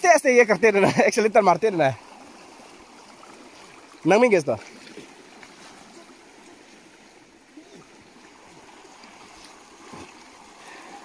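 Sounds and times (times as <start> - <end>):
river flowing: 0.0 - 11.0.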